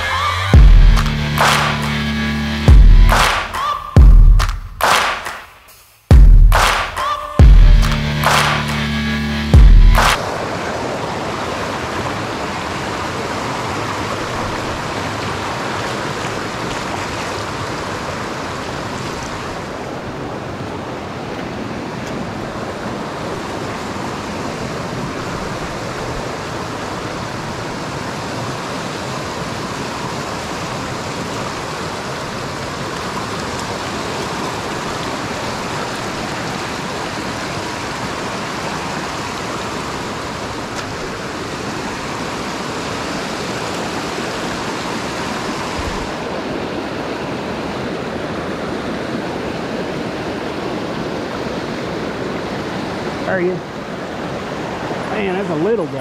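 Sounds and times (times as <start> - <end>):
creek water rushing: 0.0 - 5.5, 6.1 - 56.0.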